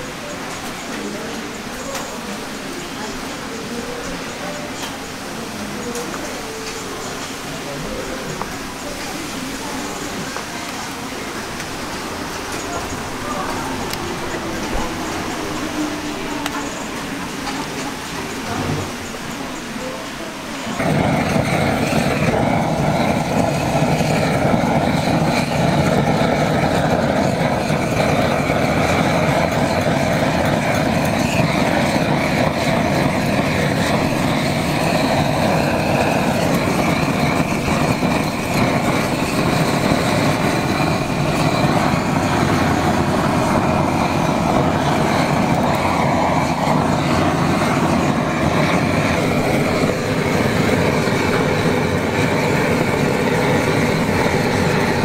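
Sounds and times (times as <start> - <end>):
blowtorch flame hissing: 0.0 - 55.0.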